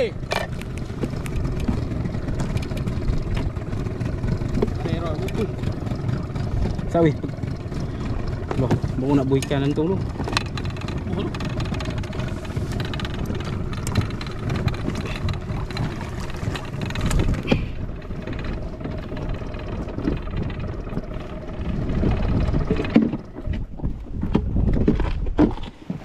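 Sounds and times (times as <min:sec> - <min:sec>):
water noise: 0:00.0 - 0:26.0
wind: 0:00.0 - 0:26.0.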